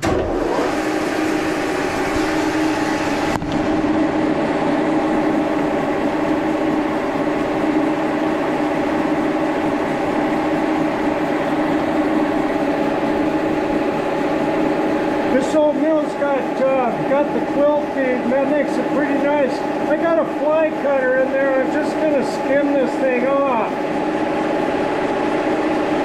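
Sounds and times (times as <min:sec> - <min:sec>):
milling machine running: 0:00.0 - 0:26.0
phase converter hum: 0:00.0 - 0:26.0.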